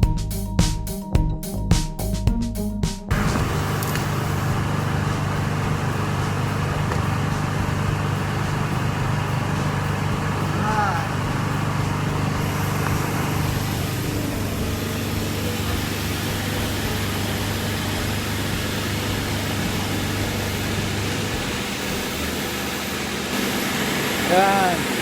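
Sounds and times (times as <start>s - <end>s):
constant hiss: 3.1s - 25.0s
low machinery hum: 3.1s - 25.0s.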